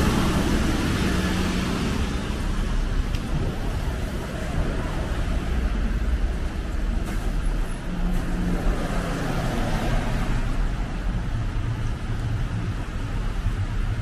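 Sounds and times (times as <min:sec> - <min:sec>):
engine hum: 0:00.0 - 0:14.0
road traffic rumble: 0:00.0 - 0:14.0.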